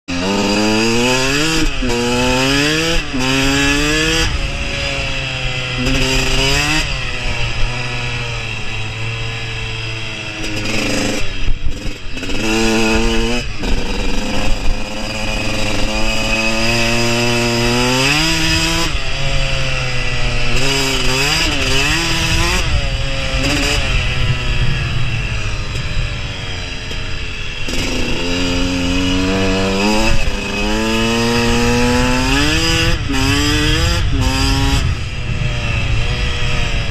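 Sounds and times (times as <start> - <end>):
dirt bike engine revving: 0.1 - 36.9.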